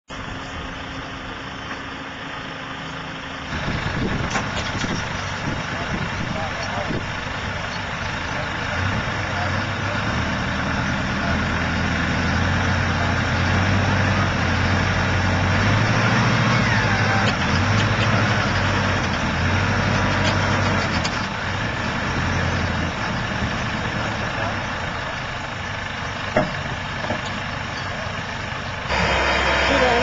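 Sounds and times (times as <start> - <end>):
heavy diesel engine running: 0.1 - 30.0.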